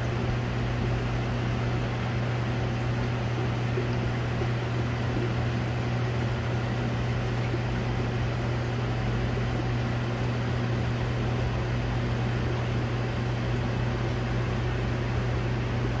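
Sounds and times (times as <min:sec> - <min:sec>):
hiss of circulating water: 0:00.0 - 0:16.0
pumps humming: 0:00.0 - 0:16.0.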